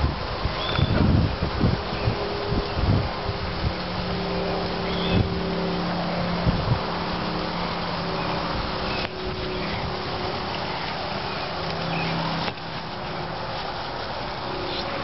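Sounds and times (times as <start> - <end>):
constant hiss: 0.0 - 15.0
motor-like hum: 0.0 - 15.0.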